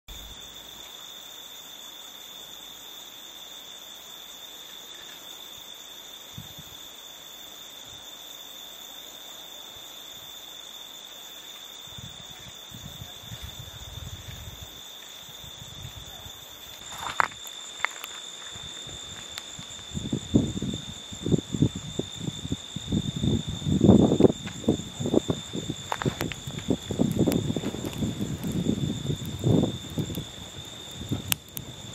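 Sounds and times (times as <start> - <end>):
crickets chirping: 0.1 - 31.9.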